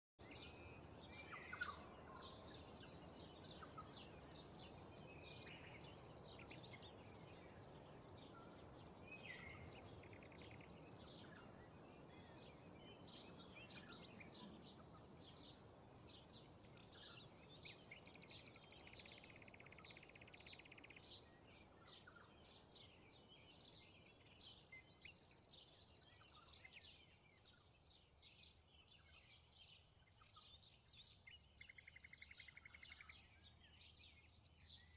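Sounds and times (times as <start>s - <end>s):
small birds chirping: 0.2s - 34.9s
soft steady wind: 0.2s - 34.9s.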